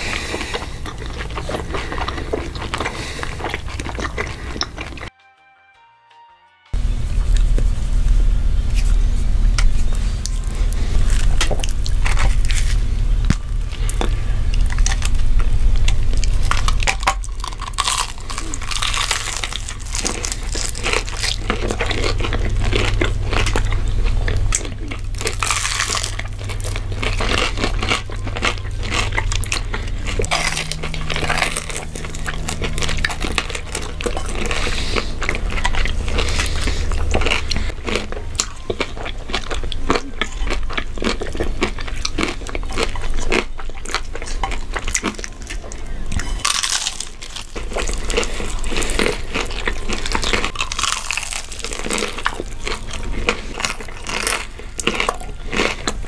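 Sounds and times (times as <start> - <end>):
crunching and chewing crispy food: 0.0 - 5.1, 7.3 - 56.0.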